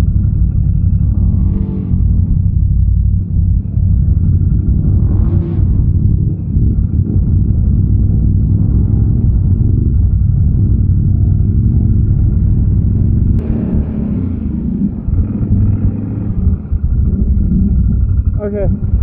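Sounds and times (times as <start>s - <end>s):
atv engine rumbling: 0.0s - 19.0s.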